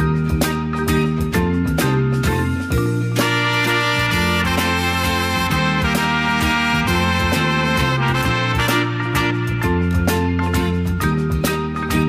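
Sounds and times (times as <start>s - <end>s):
latin dance band music: 0.0s - 12.0s.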